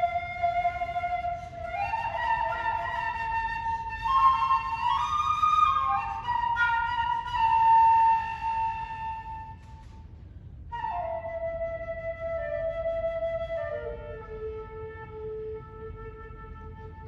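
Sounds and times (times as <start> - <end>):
solo flute melody: 0.0 - 10.1, 10.7 - 17.0.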